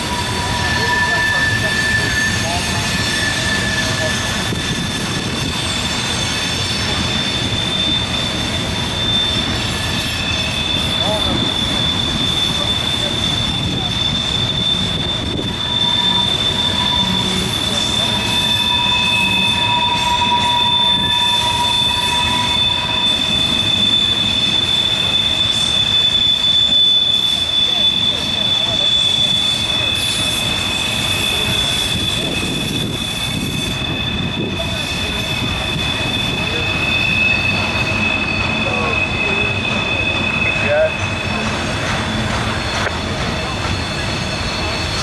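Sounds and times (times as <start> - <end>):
rumble of wheels on track: 0.0 - 45.0
wheel flanges squealing on rail: 0.0 - 45.0.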